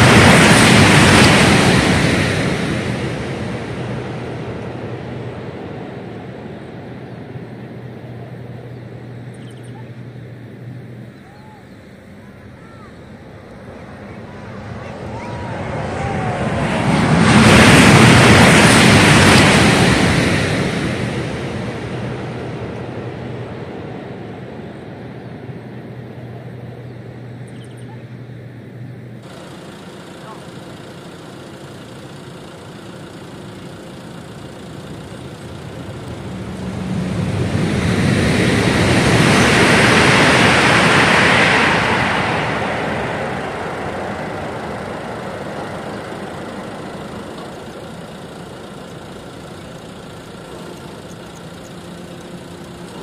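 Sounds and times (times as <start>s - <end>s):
electric train rushing past: 0.0s - 53.0s
steady low hum: 0.0s - 53.0s.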